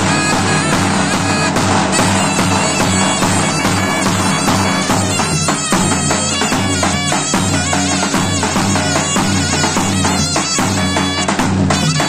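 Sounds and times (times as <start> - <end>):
bass drum beat: 0.0 - 12.0
zurna melody: 0.0 - 12.0.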